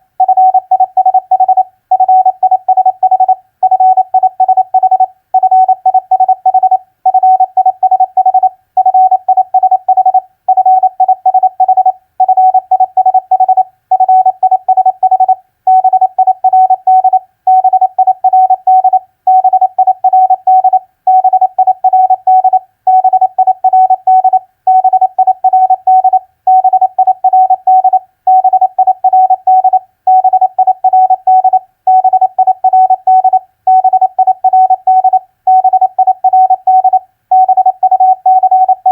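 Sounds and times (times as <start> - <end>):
morse code beeps: 0.2 - 38.9.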